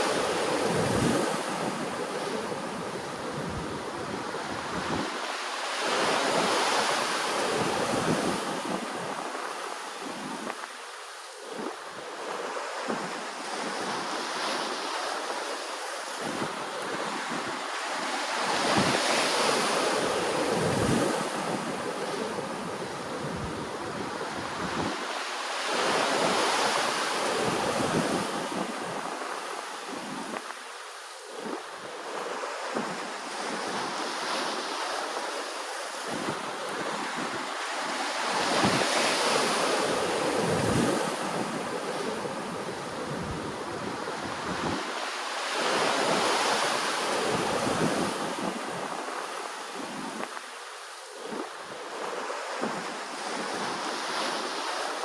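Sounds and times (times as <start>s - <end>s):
ocean waves washing ashore: 0.0s - 55.0s.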